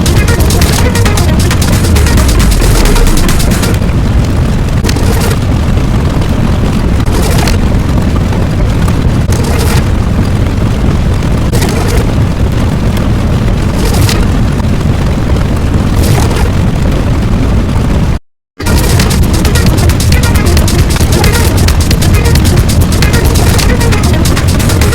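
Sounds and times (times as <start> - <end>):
continuous rumbling: 0.0 - 24.9
crashing boom: 0.0 - 24.9.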